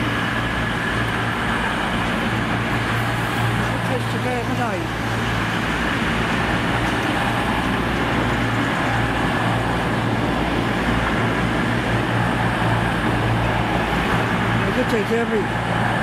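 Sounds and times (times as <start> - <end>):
diesel train engines humming: 0.0 - 16.0.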